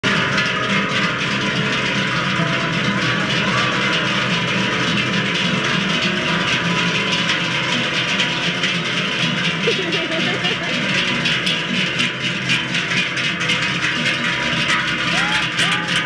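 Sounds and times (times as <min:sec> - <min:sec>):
cowbells clanging: 0:00.0 - 0:16.0.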